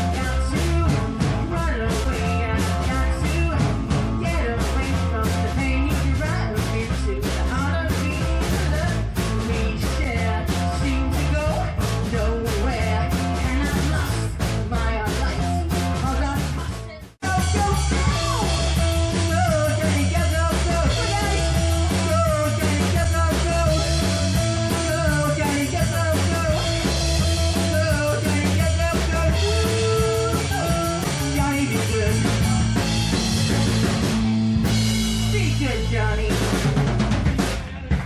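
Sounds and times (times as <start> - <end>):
person singing: 0.0 - 33.8
live rock band playing: 0.0 - 38.0.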